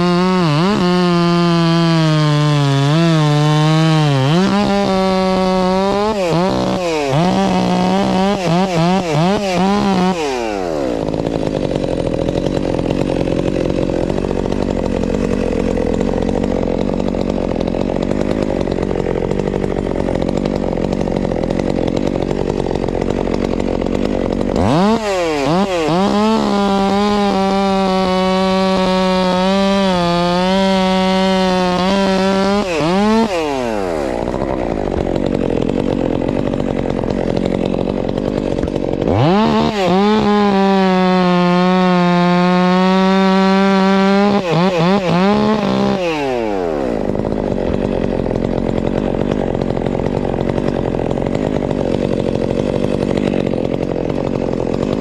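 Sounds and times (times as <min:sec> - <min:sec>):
chainsaw revving and cutting: 0:00.0 - 0:55.0
steady engine noise: 0:02.4 - 0:55.0.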